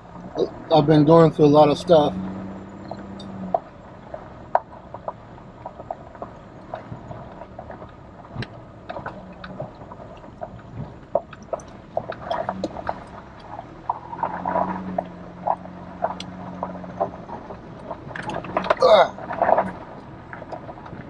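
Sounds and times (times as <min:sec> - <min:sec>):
low engine hum: 0:00.0 - 0:21.0
tyres and suspension rattling: 0:00.0 - 0:21.0.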